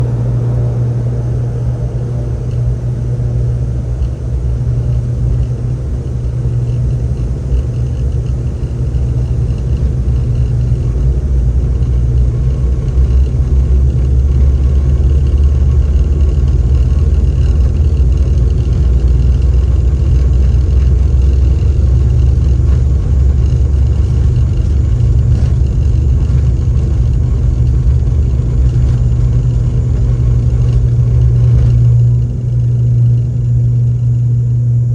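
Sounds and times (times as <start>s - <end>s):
airliner engines rumbling: 0.0s - 34.9s.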